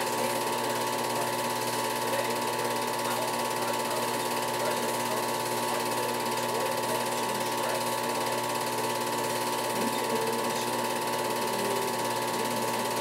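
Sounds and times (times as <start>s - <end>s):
projector mechanical clatter: 0.0s - 13.0s
projector motor hum: 0.0s - 13.0s.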